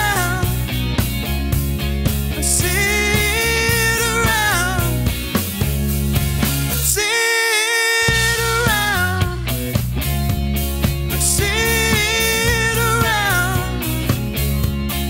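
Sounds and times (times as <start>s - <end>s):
funk band playing live: 0.0s - 15.0s.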